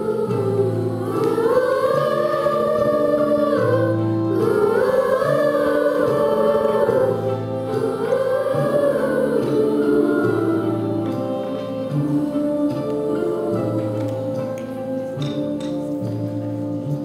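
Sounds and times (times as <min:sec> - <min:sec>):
choir singing slow song: 0:00.0 - 0:17.0
low sustained accompaniment chords: 0:00.0 - 0:17.0.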